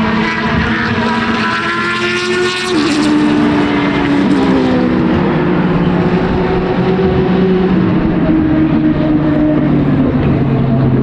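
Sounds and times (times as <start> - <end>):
racing cars passing at high revs: 0.0 - 11.0.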